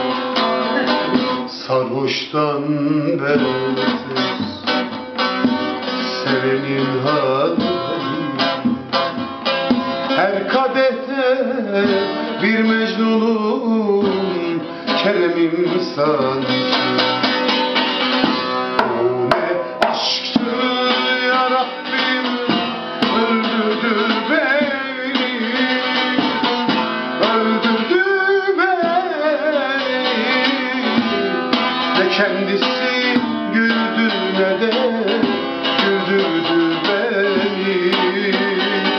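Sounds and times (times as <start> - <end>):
man singing: 0.0 - 9.2, 10.0 - 38.9
long-necked lute strumming: 0.0 - 38.9.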